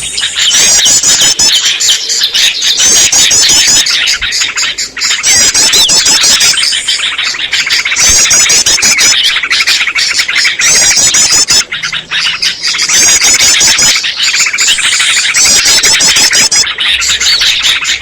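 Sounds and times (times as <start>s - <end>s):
high rapidly repeated bird notes: 0.0s - 18.0s
songbirds chattering: 0.0s - 18.0s.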